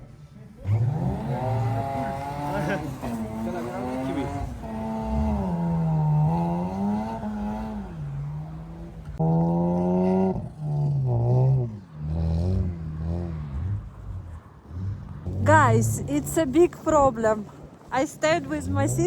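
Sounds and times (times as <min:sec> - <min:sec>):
vehicle engine revving: 0:00.4 - 0:19.0.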